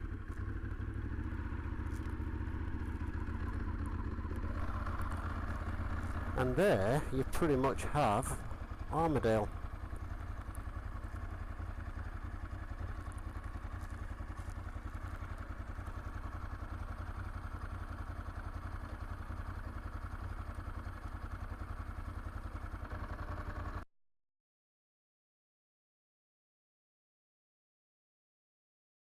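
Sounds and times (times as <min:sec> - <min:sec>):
motorcycle engine idling: 0:00.0 - 0:23.8.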